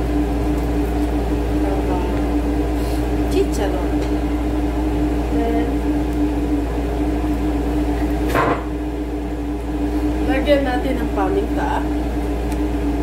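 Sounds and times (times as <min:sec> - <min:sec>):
kitchen appliance motor hum: 0:00.0 - 0:13.0.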